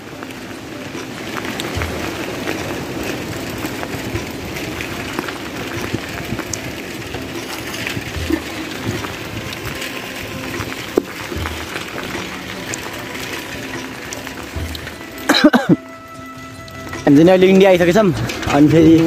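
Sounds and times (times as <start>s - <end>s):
water rushing through sluice gates: 0.0s - 19.0s.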